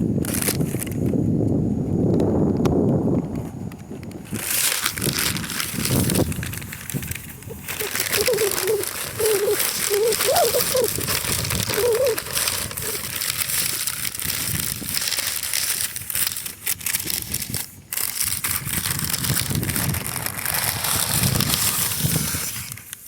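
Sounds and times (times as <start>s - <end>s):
wind buffeting the microphone: 0.0s - 23.0s.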